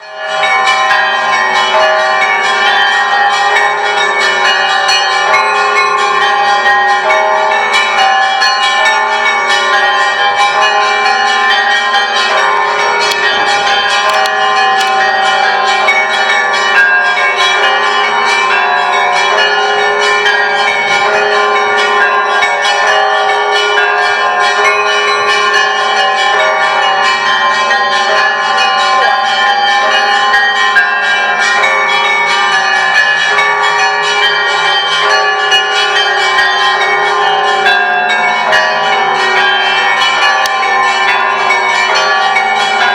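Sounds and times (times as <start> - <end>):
church bells pealing: 0.0 - 42.9
lingering tones of large bells: 0.0 - 42.9.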